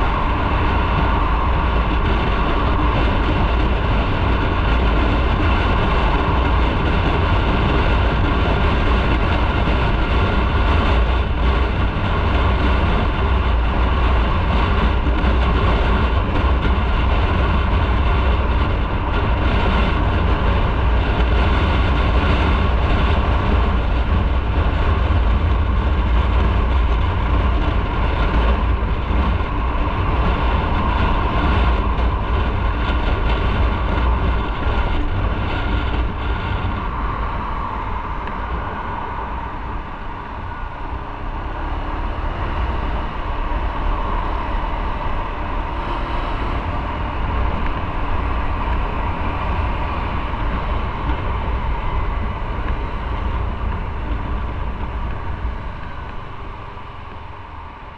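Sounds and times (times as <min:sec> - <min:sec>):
motorcycle engine: 0:00.0 - 0:57.9
road noise: 0:00.0 - 0:57.9
wind buffeting microphone: 0:00.0 - 0:57.9.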